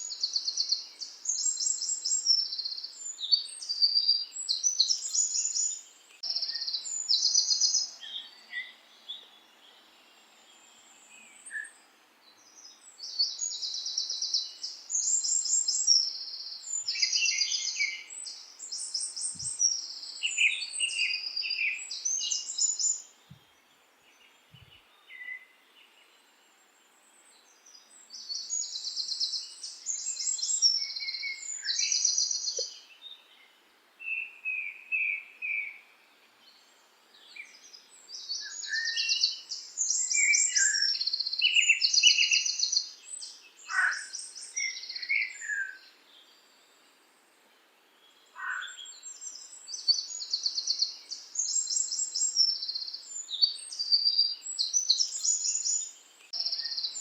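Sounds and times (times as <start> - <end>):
faint background hiss: 0.0 - 57.0
songbirds chirping and trilling: 0.0 - 57.0.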